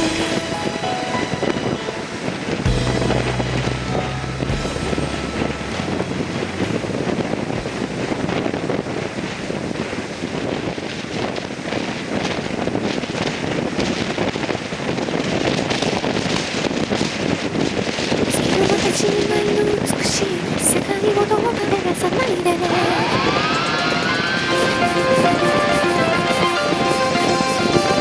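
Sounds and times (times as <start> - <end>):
waves rushing: 0.0 - 15.9, 17.3 - 28.0
wind buffeting microphone: 0.0 - 28.0.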